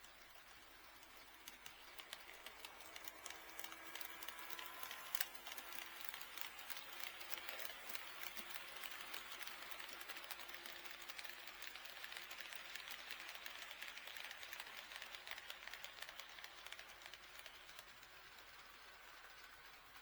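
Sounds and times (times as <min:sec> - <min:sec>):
model train wheels clicking: 0:00.0 - 0:20.0.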